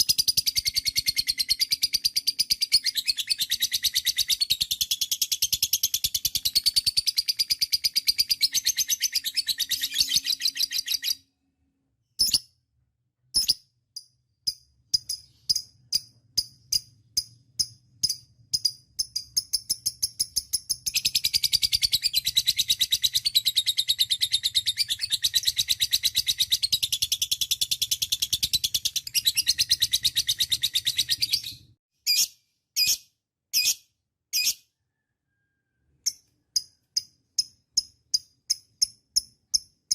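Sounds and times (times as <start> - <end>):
bird chirps: 0.0 - 11.4, 12.0 - 12.6, 13.3 - 39.9.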